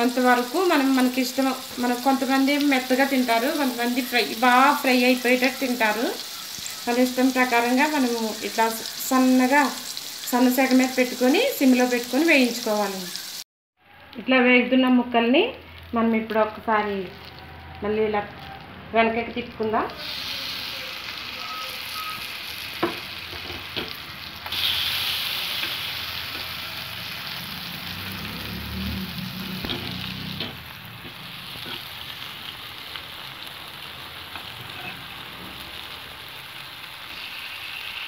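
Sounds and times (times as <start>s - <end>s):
fish sizzling in oil: 0.0s - 13.5s, 19.6s - 38.0s.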